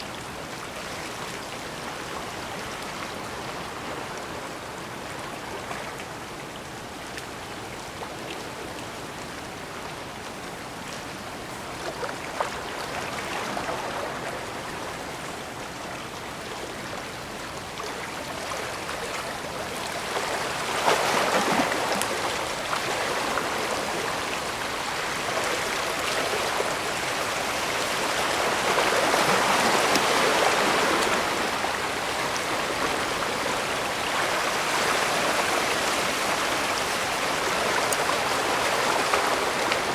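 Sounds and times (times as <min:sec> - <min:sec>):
water lapping against shore: 0:00.0 - 0:39.9.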